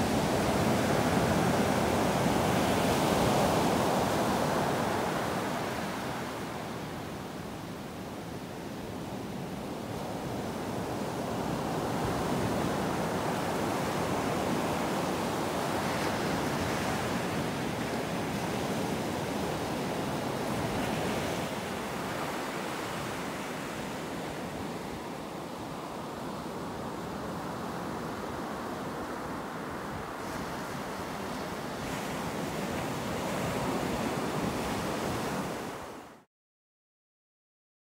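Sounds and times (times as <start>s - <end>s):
ocean surf breaking on beach: 0.0s - 36.2s.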